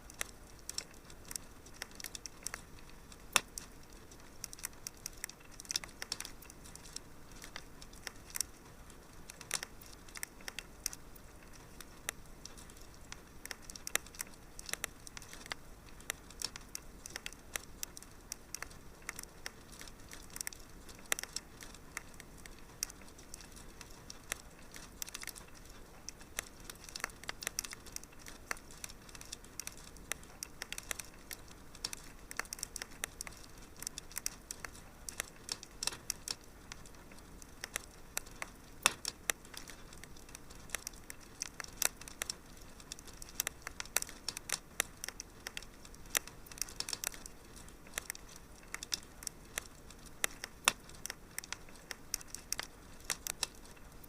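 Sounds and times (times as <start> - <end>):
soft steady fire hiss: 0.0 - 54.0
wood fire pops and snaps: 0.0 - 54.0.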